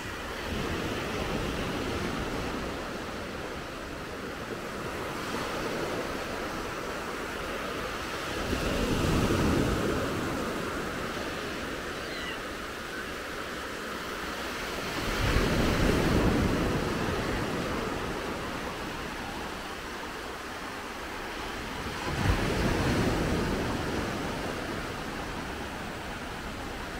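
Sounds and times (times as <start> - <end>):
small waves breaking on sandy shore: 0.0 - 26.9.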